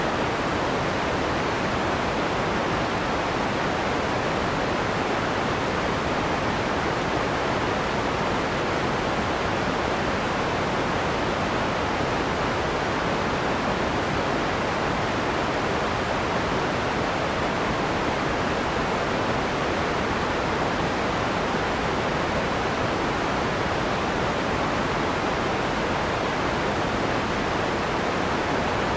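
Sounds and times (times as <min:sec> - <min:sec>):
steady white noise hiss: 0:00.0 - 0:28.9.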